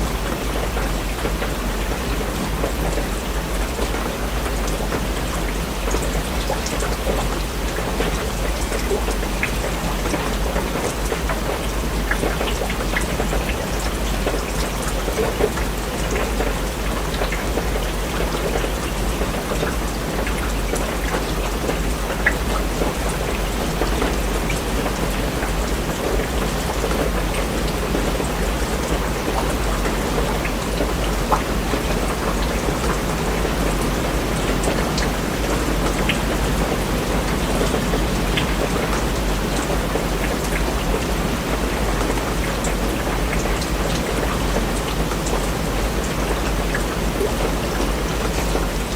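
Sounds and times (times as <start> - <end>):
low rain rumble: 0.0 - 48.9
raindrops ticking: 0.0 - 48.9.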